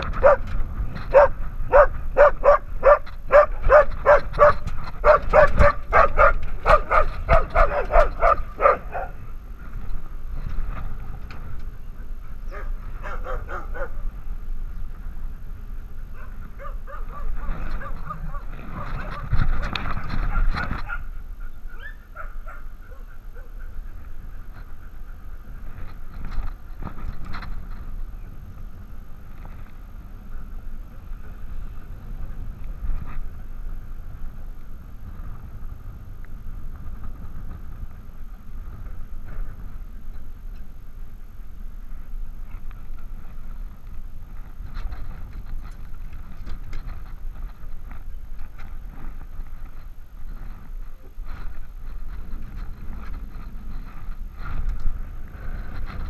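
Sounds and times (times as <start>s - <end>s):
camera rustling against harness: 0.0s - 56.0s.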